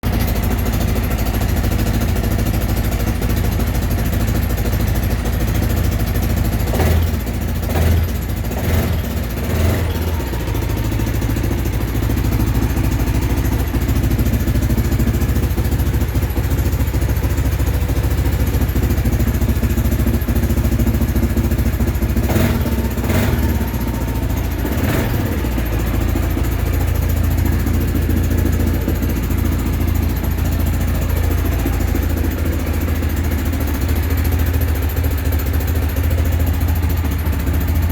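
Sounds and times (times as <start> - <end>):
quad bike engine blips: 0.0 - 37.9
quad bike engine idling: 0.0 - 37.9.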